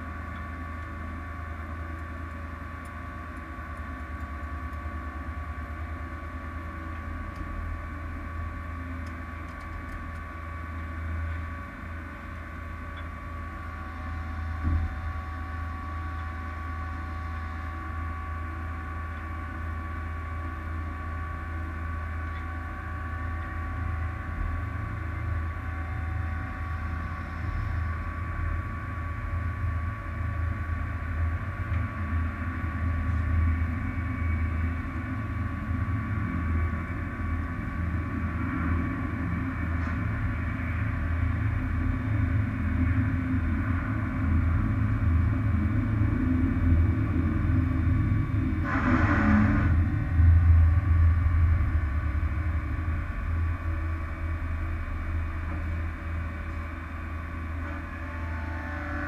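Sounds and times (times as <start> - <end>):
aircraft engine idling: 0.0 - 57.6.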